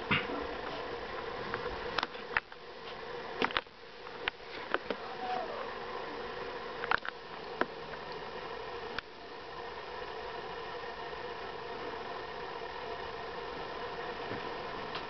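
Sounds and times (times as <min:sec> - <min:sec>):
low buzzing hum: 0:00.0 - 0:15.0.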